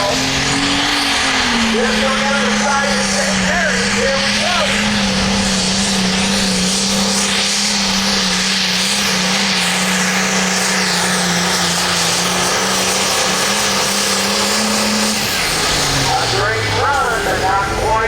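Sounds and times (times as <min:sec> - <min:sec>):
diesel tractor engine running flat out: 0:00.0 - 0:18.0.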